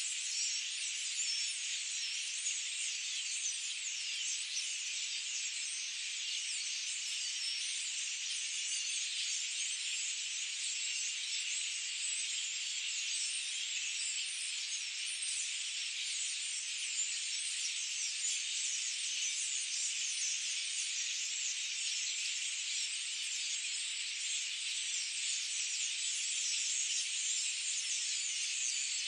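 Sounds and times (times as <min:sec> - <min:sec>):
chorus of high-pitched chirps and trills: 0:00.0 - 0:29.0.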